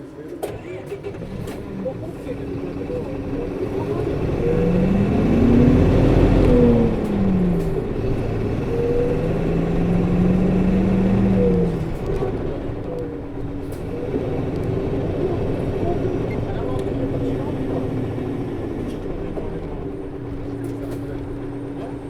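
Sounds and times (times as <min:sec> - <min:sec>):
bus engine revving: 0:00.5 - 0:22.0.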